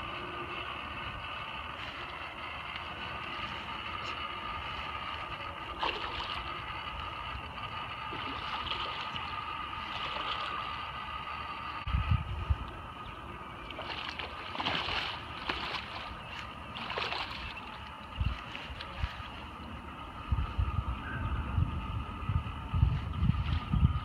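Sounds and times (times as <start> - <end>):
blower fan whirring: 0.0 - 24.0.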